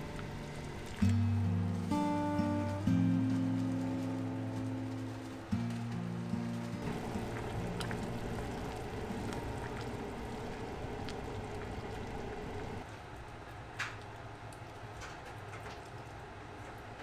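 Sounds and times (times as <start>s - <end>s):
broth simmering and bubbling: 0.0s - 17.0s.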